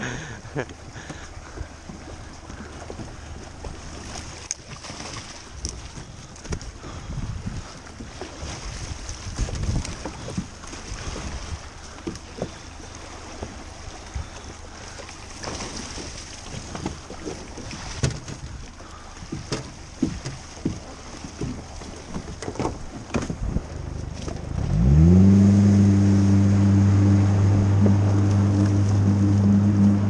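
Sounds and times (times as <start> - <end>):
outboard motor running: 0.0 - 30.0
water splashes: 0.0 - 30.0.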